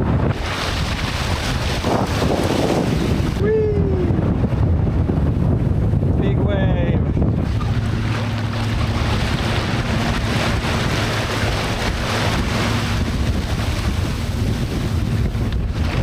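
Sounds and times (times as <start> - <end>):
water rushing past hull: 0.0 - 16.0
wind buffeting microphone: 0.0 - 16.0.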